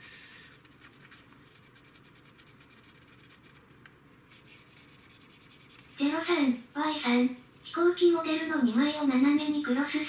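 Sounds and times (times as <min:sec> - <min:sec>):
cotton swab rubbing plastic: 0:00.3 - 0:03.7, 0:04.3 - 0:10.0.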